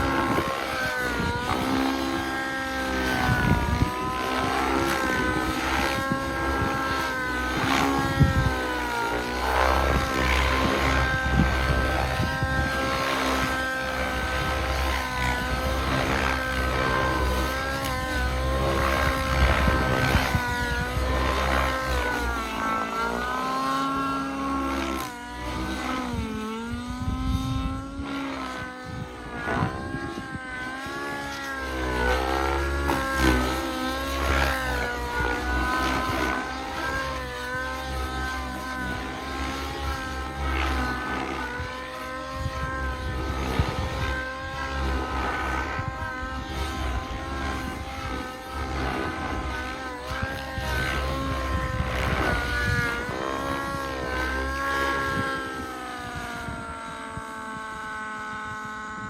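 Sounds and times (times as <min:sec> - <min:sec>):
model helicopter engine and rotors: 0:00.0 - 0:59.0.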